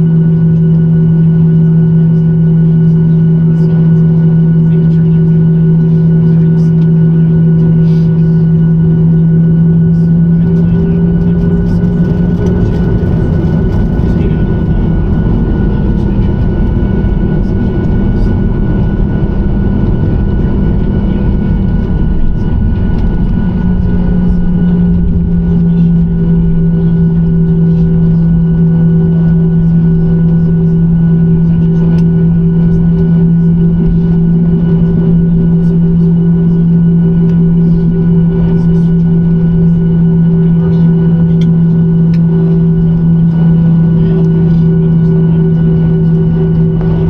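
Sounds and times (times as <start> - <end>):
jet engines running at high power: 0.0 - 47.0.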